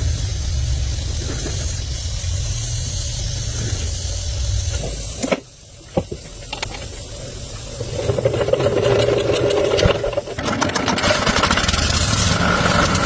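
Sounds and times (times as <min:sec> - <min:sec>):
engine-like buzz: 0:00.0 - 0:13.0
tractor engine running: 0:00.0 - 0:13.0.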